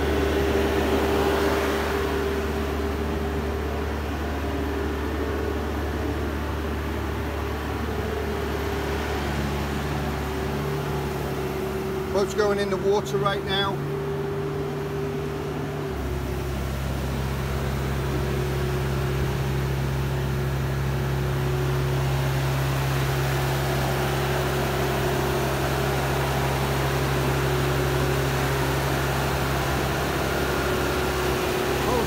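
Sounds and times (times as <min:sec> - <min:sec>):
machine engine droning: 0:00.0 - 0:32.0.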